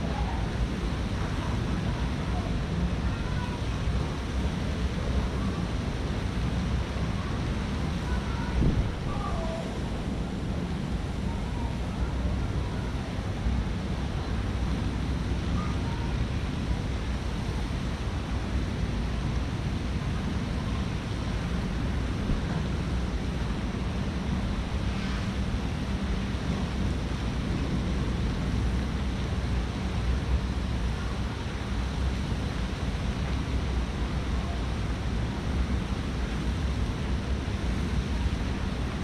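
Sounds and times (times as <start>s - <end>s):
low rushing outdoor noise: 0.0s - 39.0s.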